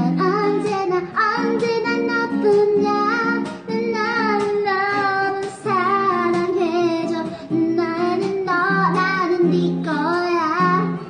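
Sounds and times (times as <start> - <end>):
acoustic guitar chords: 0.0 - 11.0
woman singing wordless syllables: 0.0 - 11.0.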